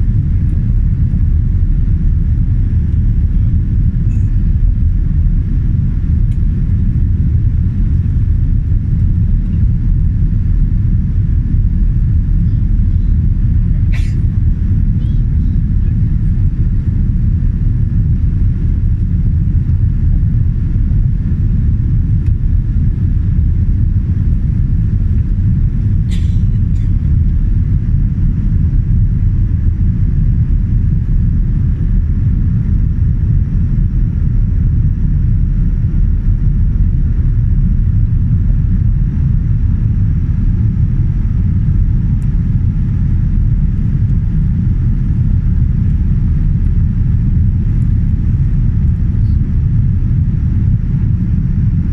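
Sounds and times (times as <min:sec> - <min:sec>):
airplane cabin engine rumble: 0:00.0 - 0:51.9.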